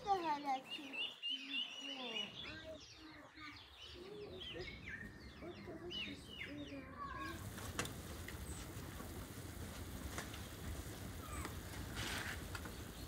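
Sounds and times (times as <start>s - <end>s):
faint children's voices: 0.0s - 8.8s, 10.8s - 12.4s
songbirds chirping: 0.0s - 13.0s.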